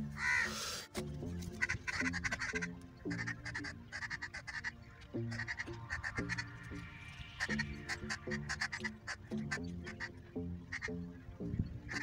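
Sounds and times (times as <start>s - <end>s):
background music: 0.0s - 12.0s
birds calling: 0.0s - 12.0s.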